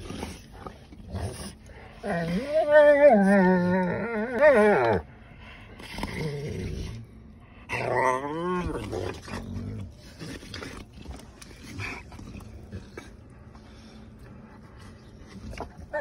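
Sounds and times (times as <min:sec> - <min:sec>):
dogs growling in play: 0:00.0 - 0:16.0.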